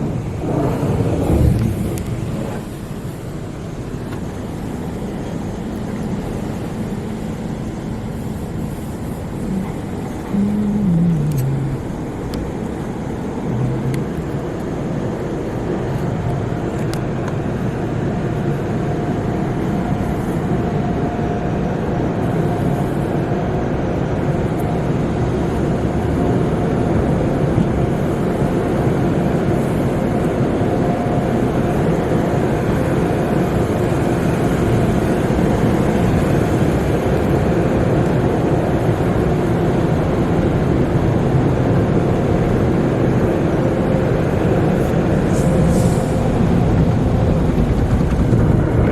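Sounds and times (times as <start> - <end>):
car wash water spray and machinery: 0.0 - 48.9.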